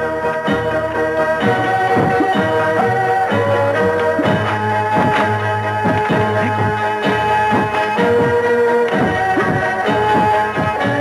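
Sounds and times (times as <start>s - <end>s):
instrumental film music: 0.0s - 11.0s.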